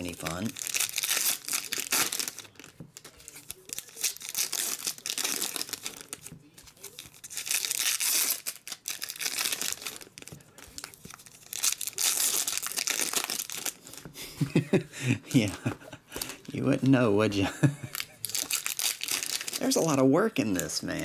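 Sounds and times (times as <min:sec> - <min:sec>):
foil wrappers crinkling and tearing: 0:00.0 - 0:14.1, 0:17.6 - 0:21.0.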